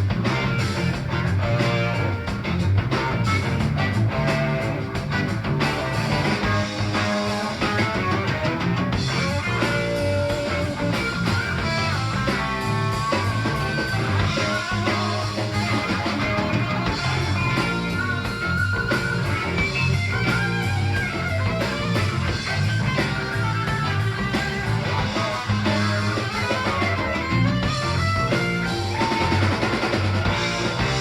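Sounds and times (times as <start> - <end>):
bass guitar: 0.0 - 31.0
drum kit: 0.0 - 31.0
electric guitar lead lines: 0.0 - 31.0.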